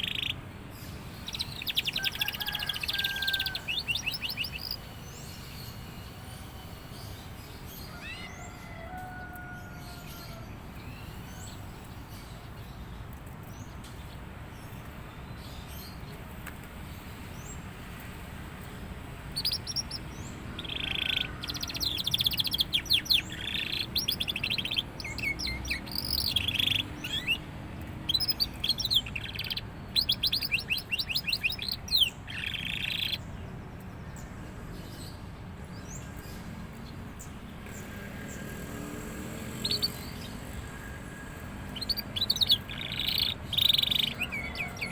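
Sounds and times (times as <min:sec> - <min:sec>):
canary singing trills and chirps: 0:00.0 - 0:13.0, 0:18.7 - 0:44.9.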